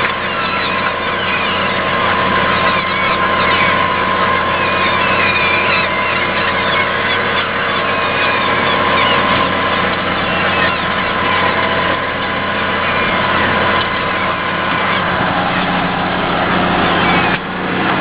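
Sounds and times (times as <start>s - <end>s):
steady high whine: 0.0s - 18.0s
tractor diesel engine under load: 0.0s - 18.0s.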